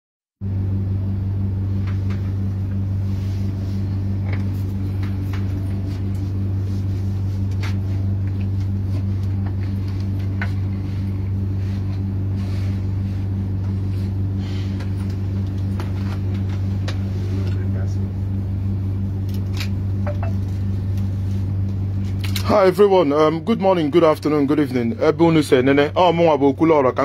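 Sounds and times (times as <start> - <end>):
low machine hum: 0.4 - 27.0.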